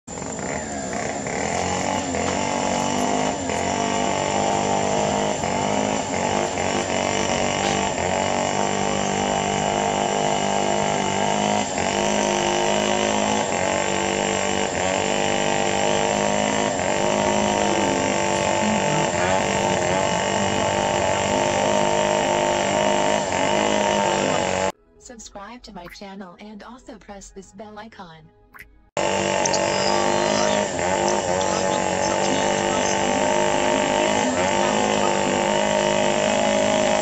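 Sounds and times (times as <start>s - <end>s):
small engine running: 0.1s - 24.7s, 29.0s - 37.0s.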